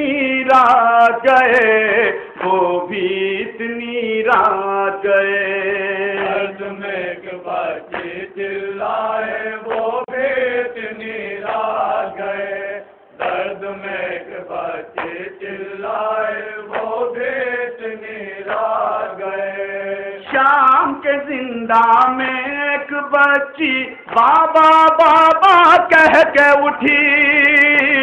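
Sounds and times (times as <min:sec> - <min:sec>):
men chanting a lament: 0:00.0 - 0:28.0.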